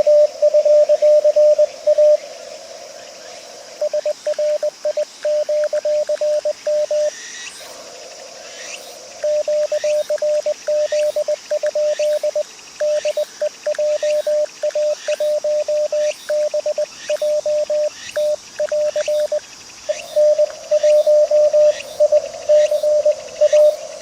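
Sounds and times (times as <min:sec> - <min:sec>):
receiver hiss: 0:00.0 - 0:24.0.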